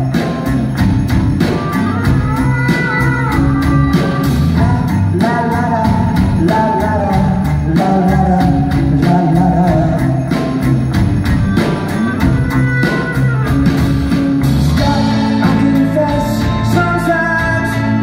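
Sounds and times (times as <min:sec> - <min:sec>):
live rock band playing: 0:00.0 - 0:18.0
person singing: 0:00.0 - 0:18.0
steady drum beat: 0:00.0 - 0:18.0.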